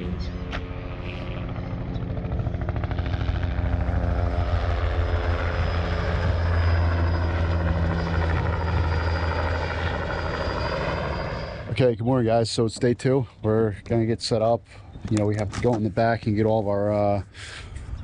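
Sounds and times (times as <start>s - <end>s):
helicopter flying overhead: 0.0s - 18.0s.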